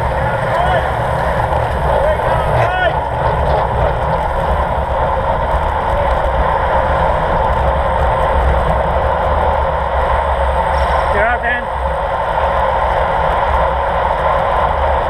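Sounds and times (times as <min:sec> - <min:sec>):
low rumble: 0:00.0 - 0:15.0
tyres humming on road: 0:00.0 - 0:15.0
wind rushing over microphone: 0:00.0 - 0:15.0.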